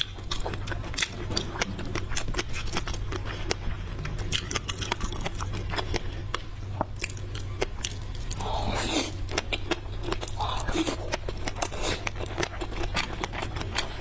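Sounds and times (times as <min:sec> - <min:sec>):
steady low hum: 0:00.0 - 0:14.0
wet biting and chewing: 0:00.0 - 0:14.0.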